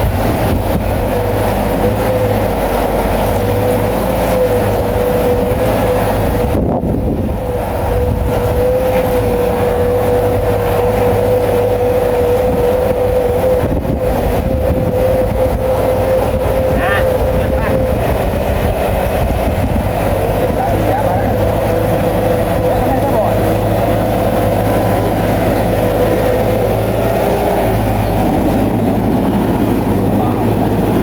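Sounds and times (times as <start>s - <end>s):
bulldozer diesel engine running: 0.0s - 31.0s
high whine: 0.0s - 31.0s.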